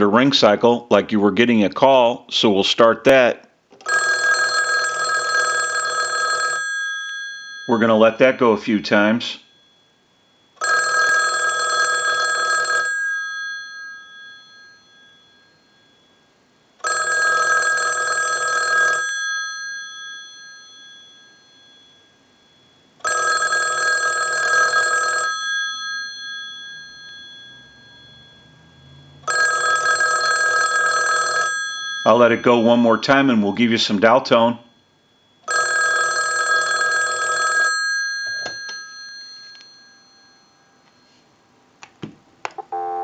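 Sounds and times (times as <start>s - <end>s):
telephone bell ringing: 3.8s - 8.0s, 9.4s - 33.0s, 34.7s - 41.3s, 42.6s - 43.0s.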